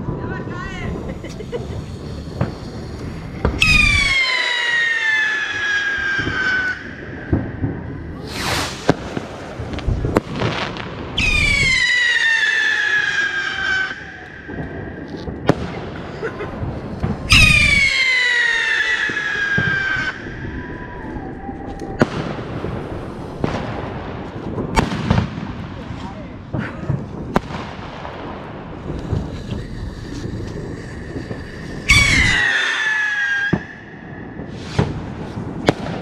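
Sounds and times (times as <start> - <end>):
firework bangs and cracks: 0.0 - 36.0
whistling fireworks: 0.0 - 36.0.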